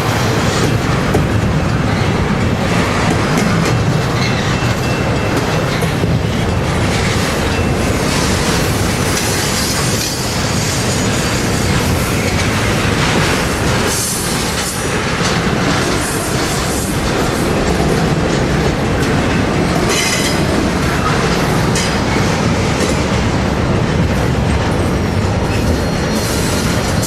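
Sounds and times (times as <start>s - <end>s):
steel wheels clattering over track: 0.0s - 27.0s.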